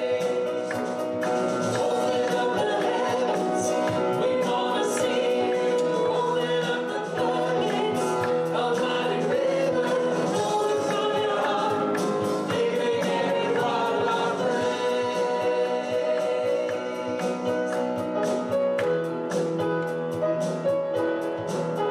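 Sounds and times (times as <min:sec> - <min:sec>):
gospel choir singing with instruments: 0:00.0 - 0:20.2.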